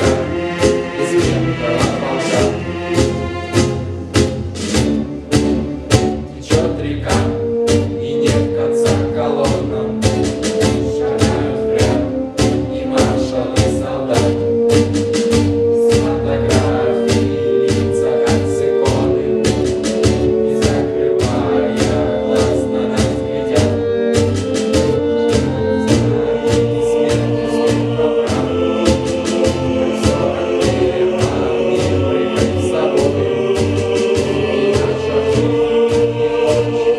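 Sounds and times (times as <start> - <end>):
background music with steady beat: 0.0 - 36.9.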